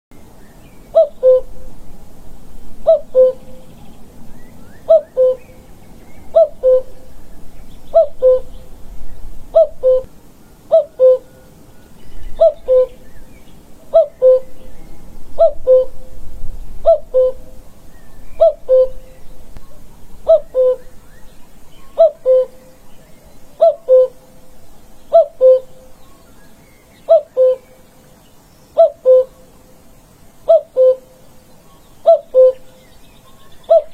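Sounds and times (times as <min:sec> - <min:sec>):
faint high bird chirping: 0:02.9 - 0:10.1, 0:10.7 - 0:16.2, 0:16.8 - 0:29.5, 0:30.5 - 0:33.9.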